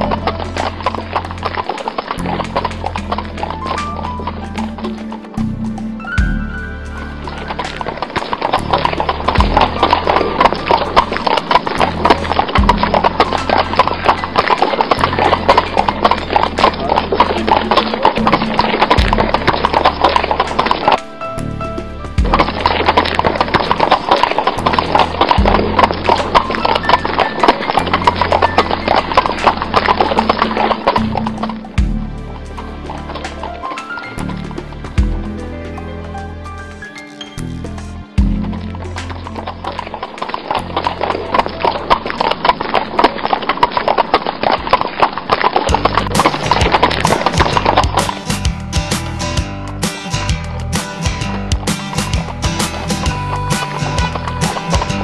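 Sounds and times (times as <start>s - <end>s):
fast clip-clop percussive beat: 0.0s - 6.6s, 7.3s - 21.0s, 22.2s - 35.8s, 37.8s - 39.6s, 45.7s - 55.0s
background music with bass line: 0.0s - 42.7s, 45.7s - 55.0s.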